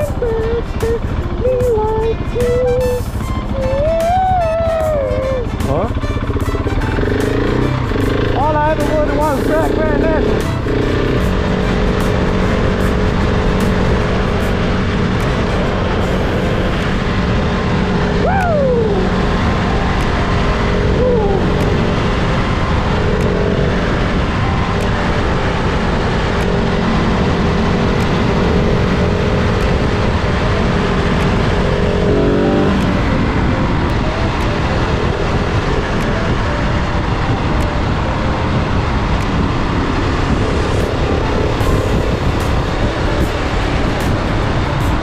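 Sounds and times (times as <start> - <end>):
motorcycle engine drone: 0.0 - 45.0
wind rushing over microphone: 3.0 - 45.0.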